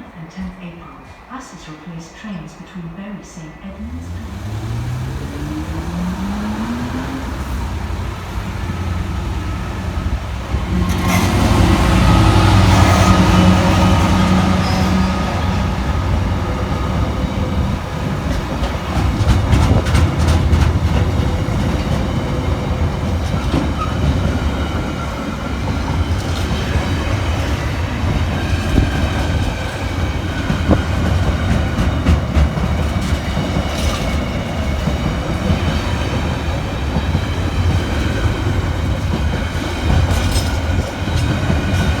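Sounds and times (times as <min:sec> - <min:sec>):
train passing: 0:00.0 - 0:42.0
wheels clicking over rail joints: 0:04.0 - 0:42.0.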